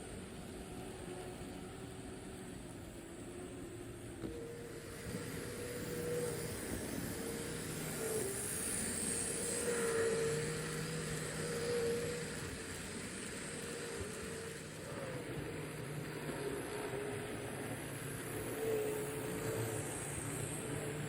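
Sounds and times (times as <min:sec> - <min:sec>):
model train wheels rumbling on rail: 0:00.0 - 0:21.0
motor hum: 0:00.0 - 0:21.0.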